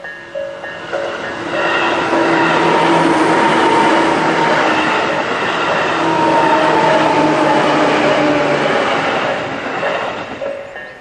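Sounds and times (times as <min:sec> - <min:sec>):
train motor hum: 0:00.0 - 0:11.0
train wheels rushing on rails: 0:00.0 - 0:11.0.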